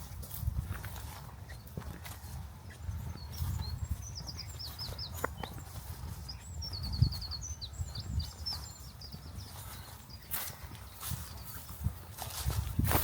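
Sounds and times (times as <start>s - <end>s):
low thuds of footsteps: 0.0s - 13.0s
songbird chirping: 0.0s - 13.0s.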